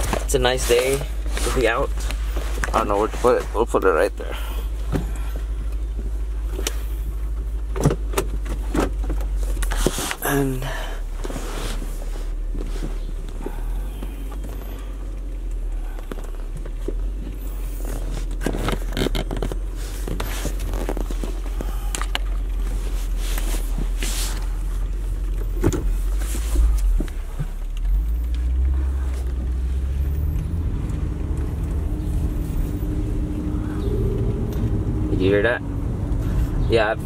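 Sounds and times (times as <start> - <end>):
car engine idling: 0.0 - 37.0
car engine revving: 0.0 - 37.0.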